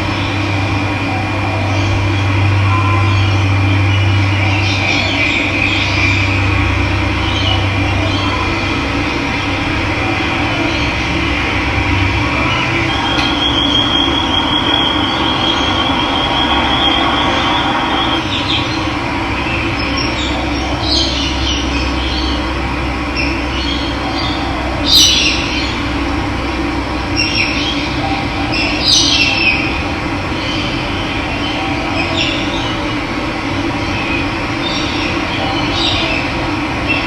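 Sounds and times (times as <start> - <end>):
birds trilling and chirping: 0.0 - 37.0.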